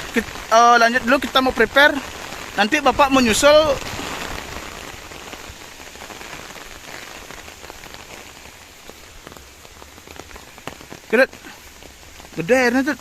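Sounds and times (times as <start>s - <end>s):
raindrops ticking: 0.0s - 13.0s
steady rain hiss: 0.0s - 13.0s.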